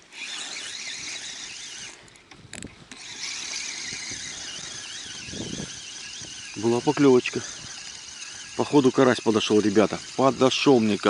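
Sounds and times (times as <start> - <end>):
fishing reel gears whining: 0.0 - 11.0
reel clicks: 0.0 - 11.0.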